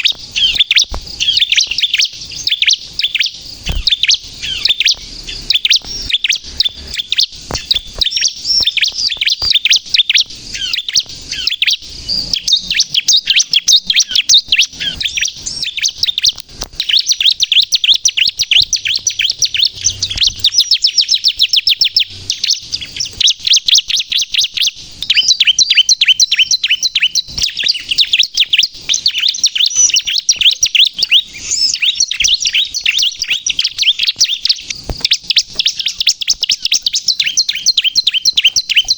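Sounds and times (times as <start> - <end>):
bird singing high chirps and trills: 0.0 - 38.9.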